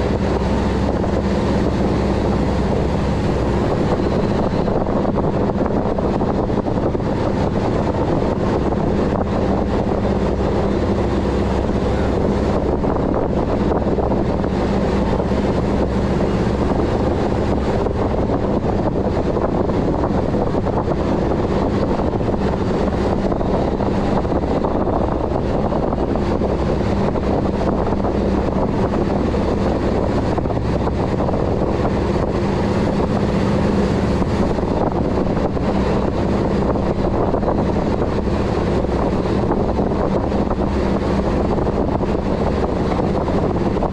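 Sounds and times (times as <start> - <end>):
boat engine hum: 0.0 - 43.9
rush of wind and water: 0.0 - 43.9
wind buffeting microphone: 0.0 - 43.9.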